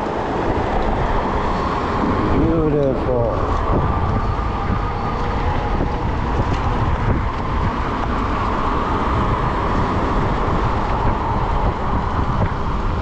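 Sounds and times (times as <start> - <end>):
bike tires rolling on road: 0.0 - 13.0
wind buffeting microphone: 0.0 - 13.0.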